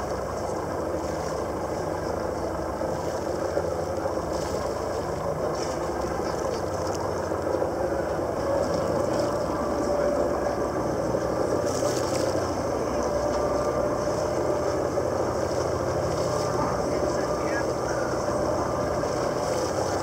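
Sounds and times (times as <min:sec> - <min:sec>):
boat engine droning: 0:00.0 - 0:20.0
water rushing: 0:00.0 - 0:20.0.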